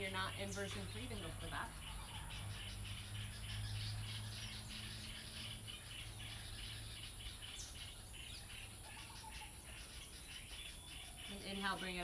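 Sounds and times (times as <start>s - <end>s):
faint rhythmic chirping: 0.0s - 12.0s.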